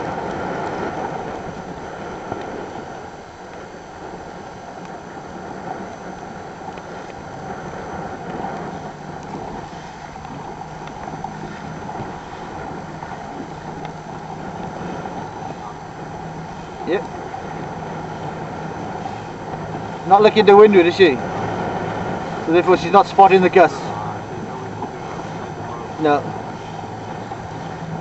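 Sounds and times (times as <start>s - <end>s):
choppy water: 0.0s - 28.0s
motorboat engine humming: 0.0s - 28.0s
wind buffeting microphone: 0.0s - 28.0s.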